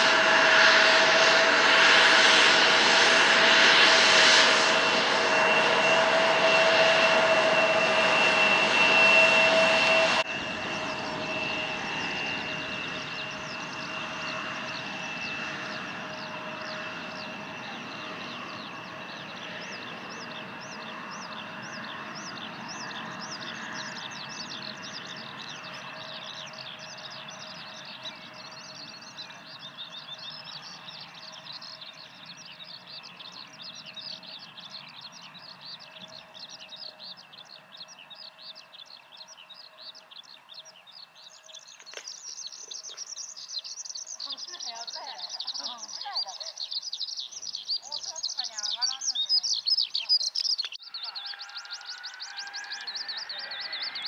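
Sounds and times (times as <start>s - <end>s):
jet engines whining while taxiing: 0.0s - 54.0s.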